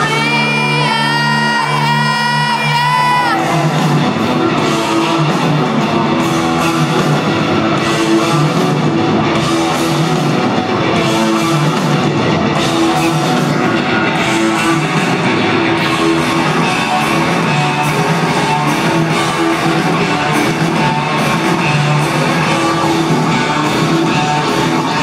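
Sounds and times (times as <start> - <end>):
drum kit: 0.0 - 25.0
electric guitar riff: 0.0 - 25.0.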